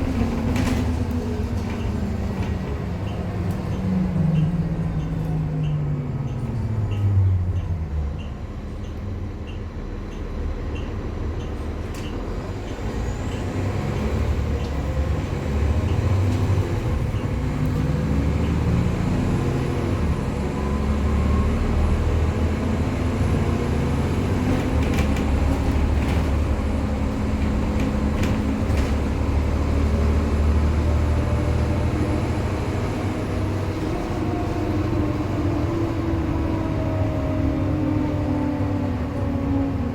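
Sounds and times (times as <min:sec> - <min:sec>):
bus diesel engine driving: 0:00.0 - 0:39.9.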